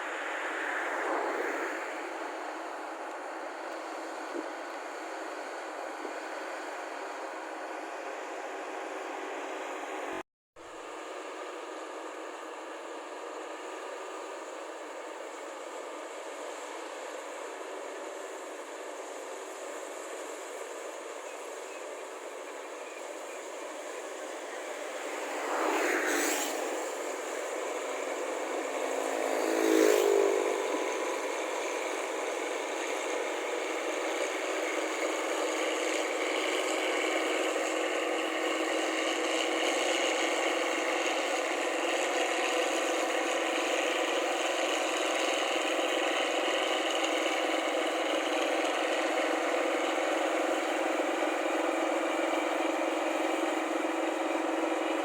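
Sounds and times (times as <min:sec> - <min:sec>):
vehicles passing by: 0:00.0 - 0:10.2, 0:15.7 - 0:55.0
combine harvester running: 0:02.0 - 0:55.0.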